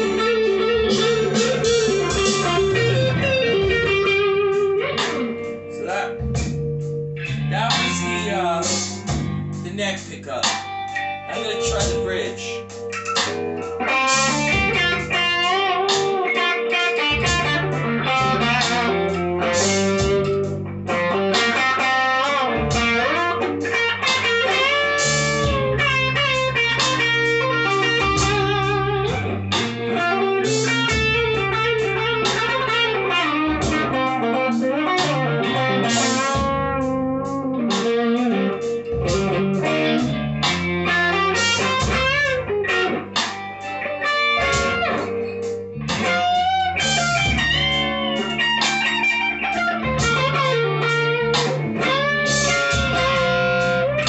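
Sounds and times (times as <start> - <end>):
electric guitar picked notes: 0.0 - 54.0.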